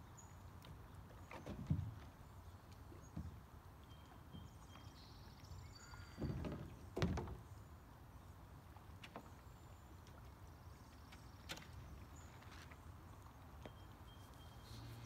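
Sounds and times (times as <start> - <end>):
rustle: 0.0 - 15.0.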